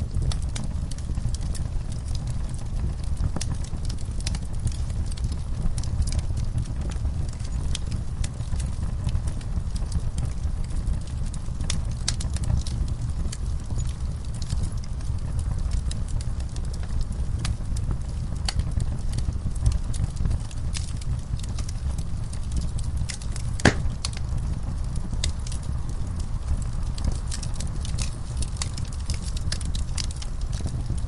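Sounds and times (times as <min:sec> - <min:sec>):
fire crackling: 0:00.0 - 0:31.0.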